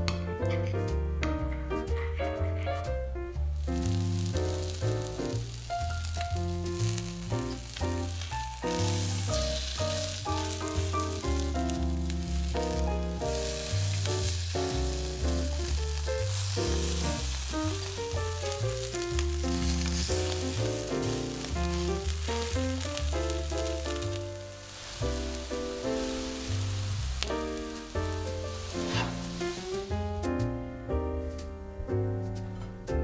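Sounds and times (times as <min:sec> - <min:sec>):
background music with bass line: 0:00.0 - 0:33.0
patties sizzling in oil: 0:02.8 - 0:30.7.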